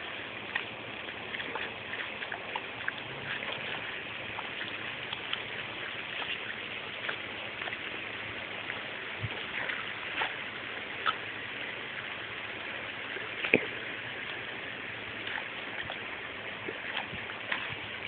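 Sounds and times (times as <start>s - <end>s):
dog digging in wet ground: 0.0s - 12.3s, 13.2s - 18.0s
hose water spraying on mulch: 0.0s - 18.0s.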